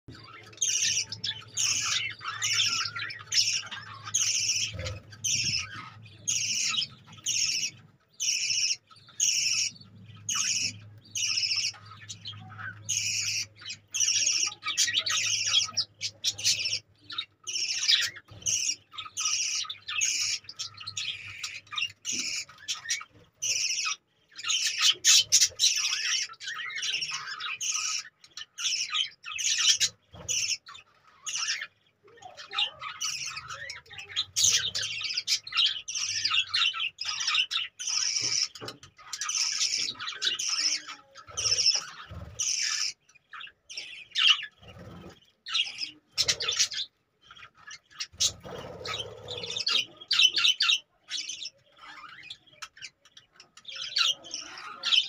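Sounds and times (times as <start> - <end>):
budgerigars chirping and squawking: 0.1 - 55.0.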